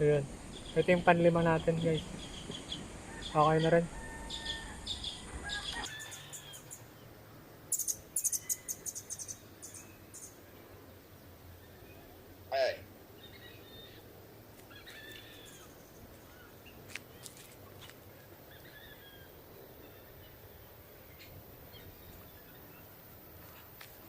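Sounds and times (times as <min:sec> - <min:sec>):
outdoor background hum: 0:00.0 - 0:24.0
faint bird calls and chirps: 0:00.5 - 0:12.2, 0:13.1 - 0:23.7.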